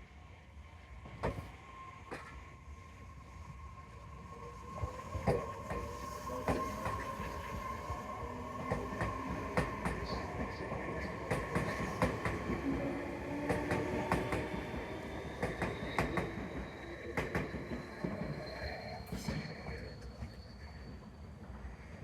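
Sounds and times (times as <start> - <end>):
train rumble: 3.5 - 22.0.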